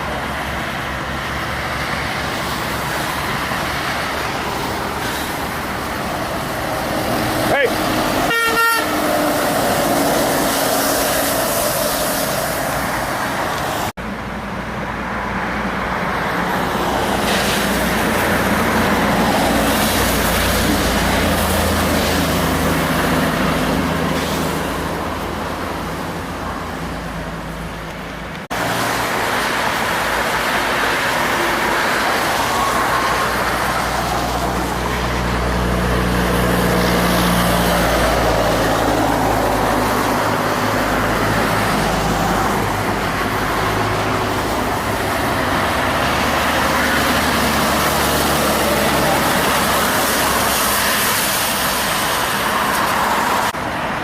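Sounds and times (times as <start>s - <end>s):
diesel truck engines droning: 0.0s - 54.0s
tyre and road noise: 0.0s - 54.0s.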